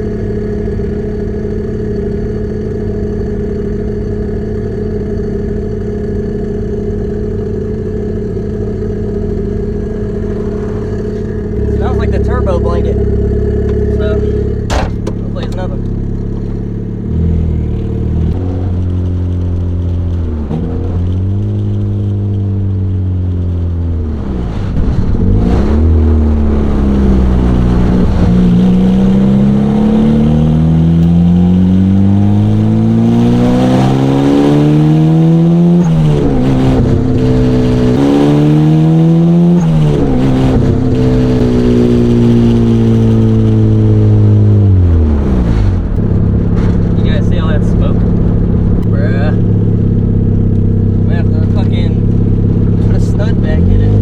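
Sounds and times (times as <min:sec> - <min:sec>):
turbocharged car engine accelerating: 0:00.0 - 0:54.0.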